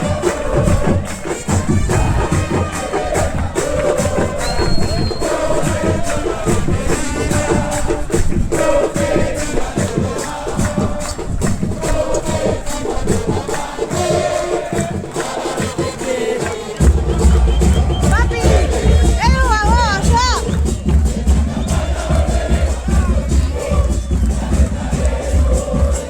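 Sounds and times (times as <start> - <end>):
crowd chanting together: 0.0 - 26.0
drums and percussion beating: 0.0 - 26.0.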